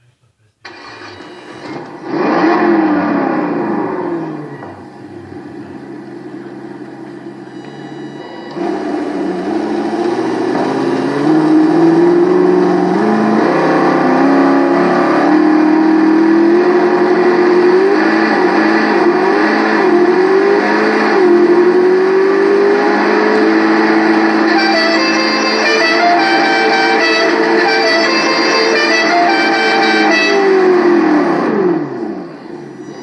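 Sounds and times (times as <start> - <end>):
synthetic engine revving: 0.7 - 33.0.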